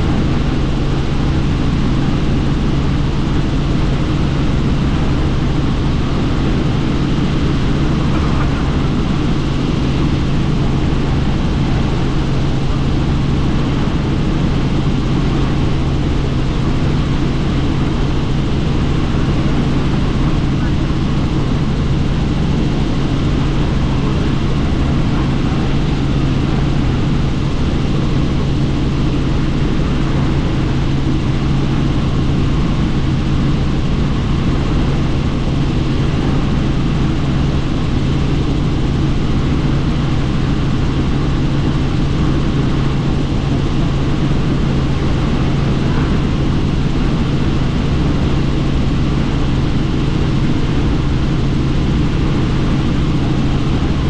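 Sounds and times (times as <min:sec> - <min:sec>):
helicopter rotor and engine drone: 0:00.0 - 0:54.0
rushing wind: 0:00.0 - 0:54.0.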